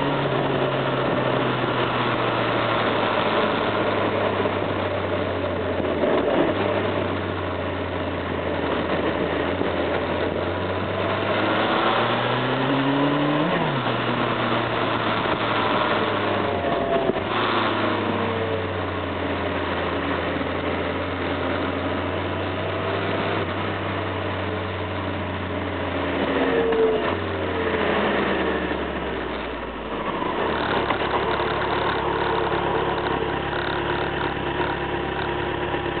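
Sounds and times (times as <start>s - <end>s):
motorcycle engine: 0.0s - 36.0s
wind and road noise: 0.0s - 36.0s.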